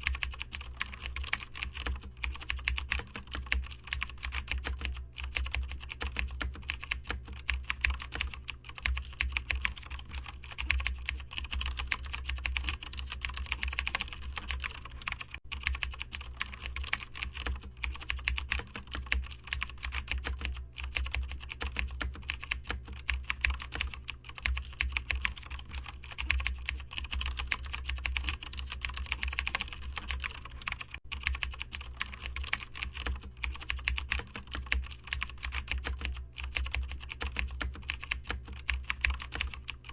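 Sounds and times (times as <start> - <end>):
fast typing on keyboard: 0.0 - 39.9
steady low hum: 0.0 - 39.9.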